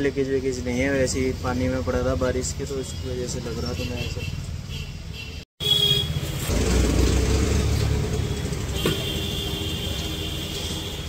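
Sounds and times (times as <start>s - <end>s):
motor vehicle running with road noise: 0.0s - 11.0s.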